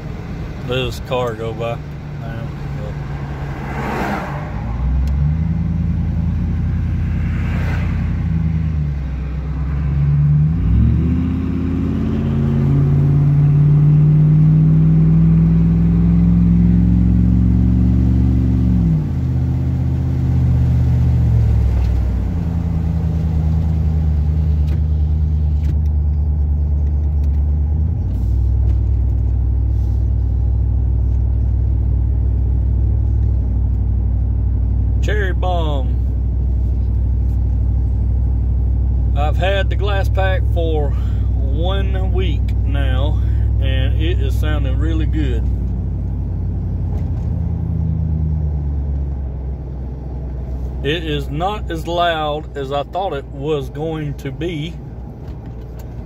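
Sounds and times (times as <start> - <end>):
truck engine droning: 0.0 - 56.0.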